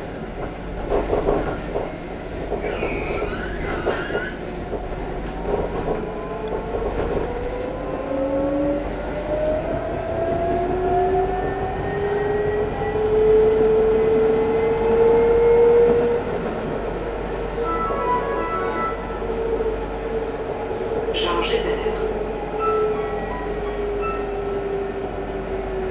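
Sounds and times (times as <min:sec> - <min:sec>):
tram rolling rumble: 0:00.0 - 0:25.9.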